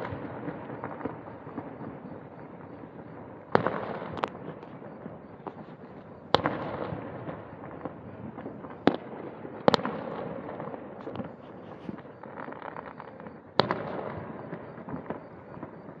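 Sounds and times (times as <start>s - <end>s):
fireworks booming: 0.0s - 16.0s
fireworks crackle: 0.0s - 16.0s.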